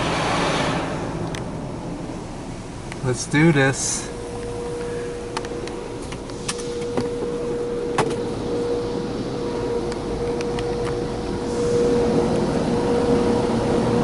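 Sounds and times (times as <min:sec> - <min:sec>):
car wash machinery hum: 0:00.0 - 0:14.0
constant whine: 0:00.0 - 0:14.0.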